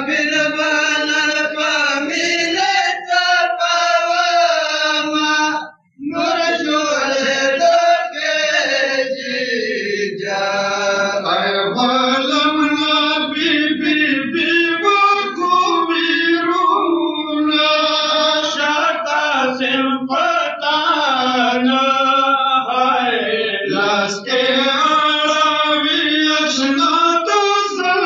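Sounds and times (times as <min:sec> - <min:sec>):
men chanting a lament: 0:00.0 - 0:28.0.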